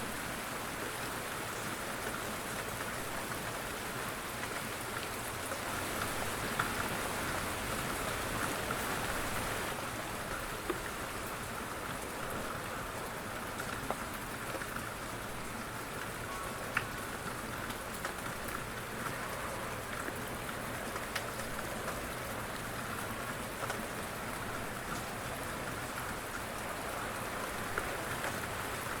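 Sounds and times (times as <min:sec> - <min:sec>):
light rain falling: 0:00.0 - 0:29.0
raindrops ticking on a surface: 0:00.1 - 0:29.0.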